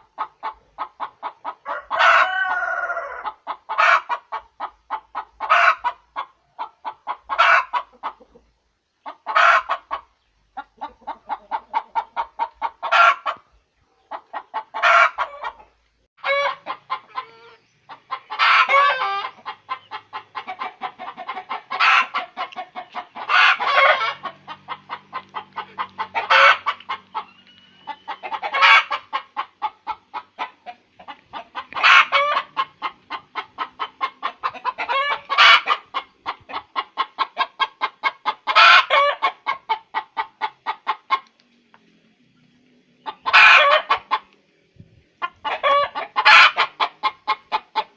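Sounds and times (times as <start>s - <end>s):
hen cackling and squawking: 0.0s - 41.8s, 43.0s - 44.4s, 45.2s - 47.9s.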